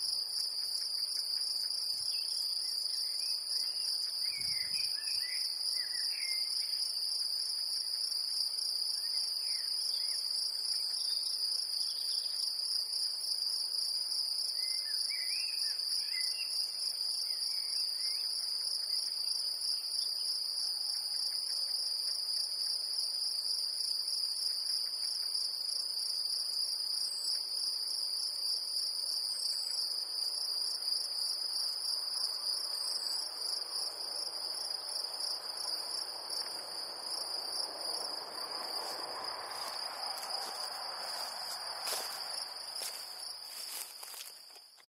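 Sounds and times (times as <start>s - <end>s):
bush-cricket buzzing trill: 0.0s - 44.8s.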